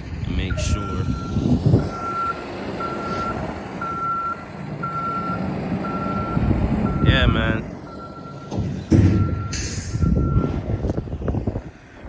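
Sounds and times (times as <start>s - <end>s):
low engine rumble: 0.0s - 12.0s
wind: 0.0s - 12.0s
vehicle backup alarm beeping: 0.4s - 11.0s.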